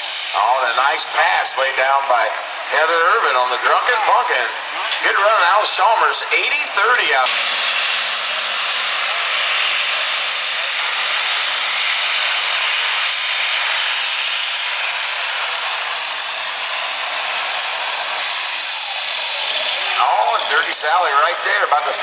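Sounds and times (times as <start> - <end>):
tractor engine roaring: 0.0 - 22.0.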